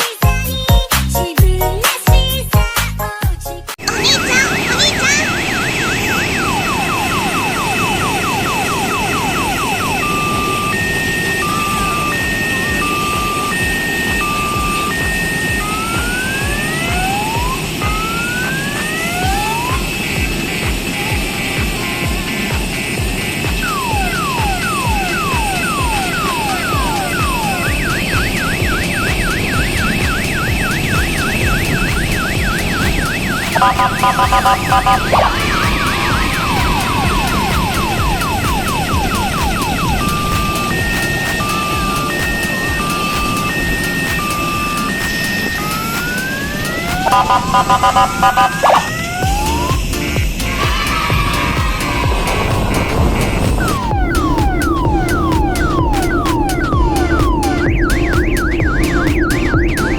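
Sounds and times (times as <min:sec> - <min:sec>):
electronic siren: 0:03.8 - 0:59.9
ride vehicle engine running: 0:09.8 - 0:59.9.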